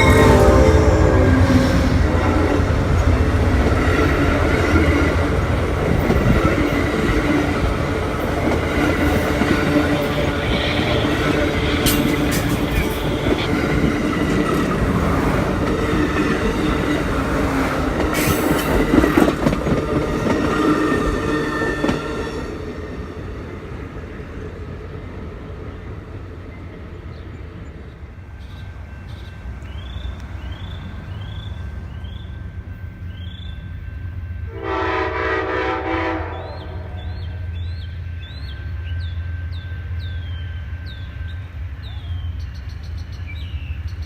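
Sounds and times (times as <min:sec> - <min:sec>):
train wheels rumbling and squealing: 0:00.0 - 0:44.0.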